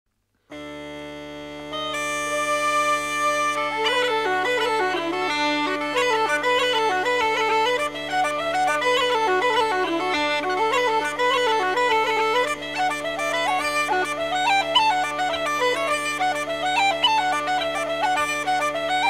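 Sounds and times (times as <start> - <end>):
bagpipe music with drones: 0.5 - 19.0.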